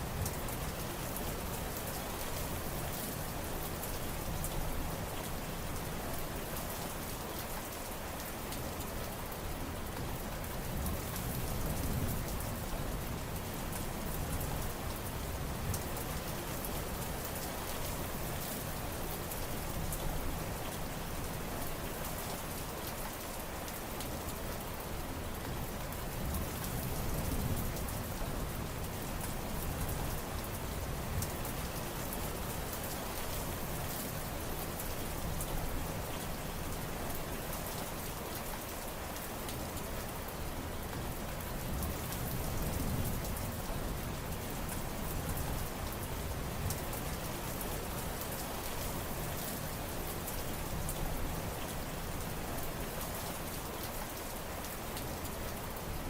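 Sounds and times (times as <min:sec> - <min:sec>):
raindrops ticking on a surface: 0:00.0 - 0:56.0
steady rain: 0:00.0 - 0:56.0.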